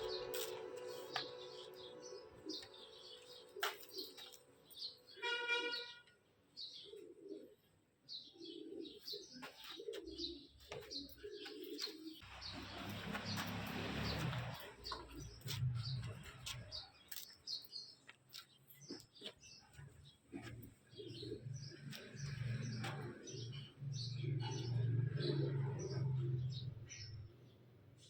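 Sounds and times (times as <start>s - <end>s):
birds chirping: 0.0s - 27.7s.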